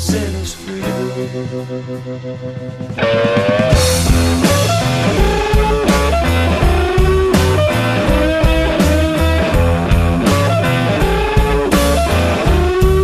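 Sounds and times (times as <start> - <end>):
bass: 0.0 - 13.0
drums: 0.0 - 13.0
electric guitar lead: 0.0 - 13.0.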